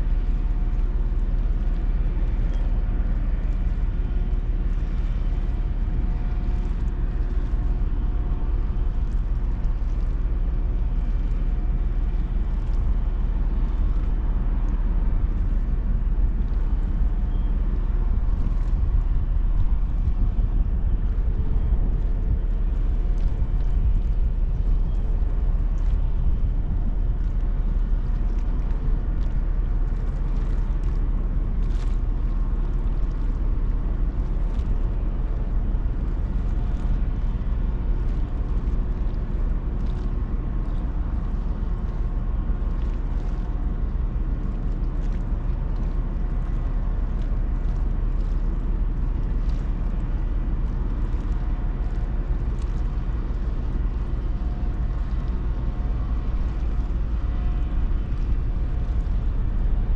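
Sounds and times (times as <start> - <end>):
faint steady hums: 0.0 - 59.9
ship machinery rumbling: 4.8 - 59.9.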